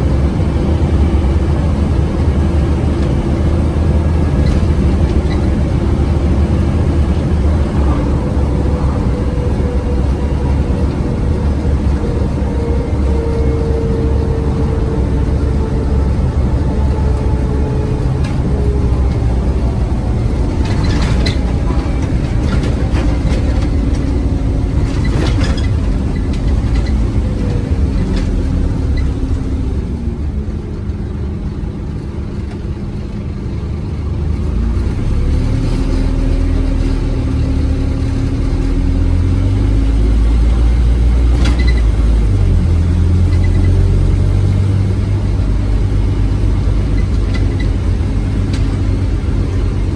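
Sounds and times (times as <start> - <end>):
bus body rattling: 0.0 - 49.9
bus engine: 0.0 - 49.9.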